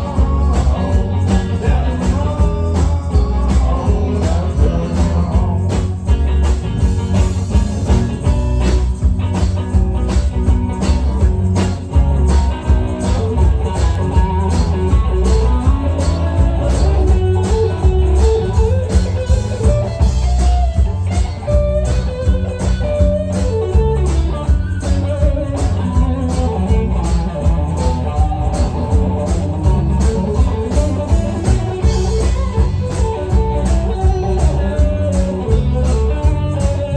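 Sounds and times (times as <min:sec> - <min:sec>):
blues-rock band playing: 0:00.0 - 0:36.9.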